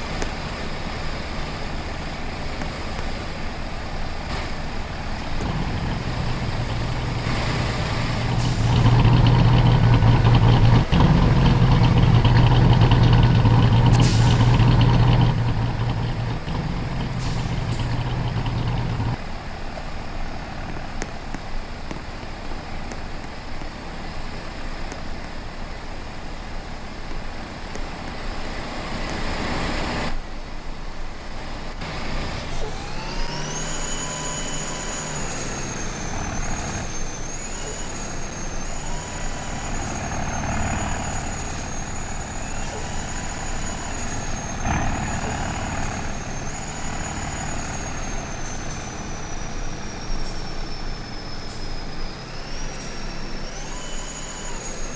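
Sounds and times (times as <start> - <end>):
truck engine and road noise: 0.0 - 54.9.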